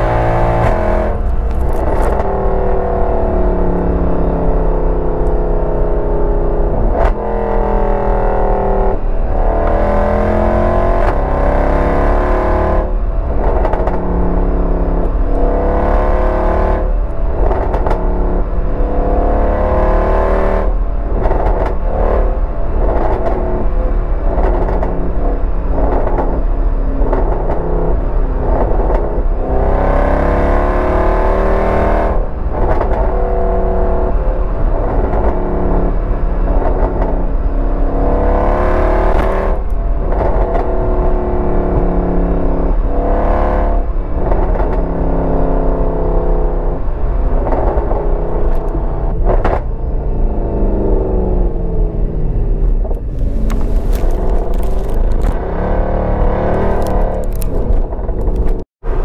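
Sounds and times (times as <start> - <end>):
loud car exhaust drone: 0.0 - 59.0.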